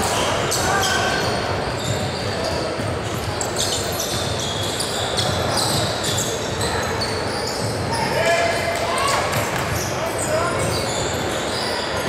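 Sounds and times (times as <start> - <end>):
court noise: 0.0 - 12.0
shoe squeaks: 0.2 - 12.0.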